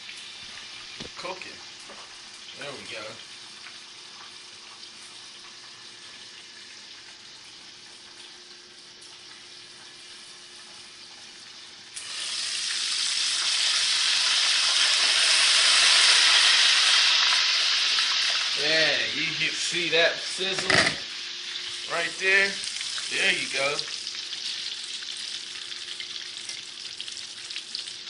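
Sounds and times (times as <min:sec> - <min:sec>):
chicken sizzling in hot oil: 0:00.0 - 0:28.0.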